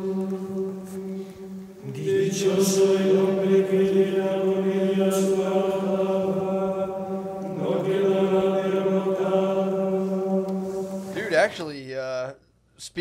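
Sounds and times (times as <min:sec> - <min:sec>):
voices chanting a drone: 0:00.0 - 0:11.6.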